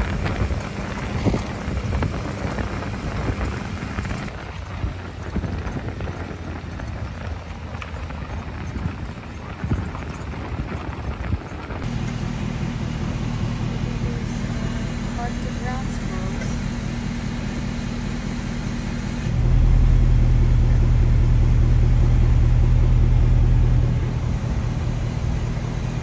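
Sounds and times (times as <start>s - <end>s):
gravel crackling under tyres: 0.0s - 26.0s
low engine hum: 0.0s - 26.0s
tyre and road noise: 0.0s - 26.0s.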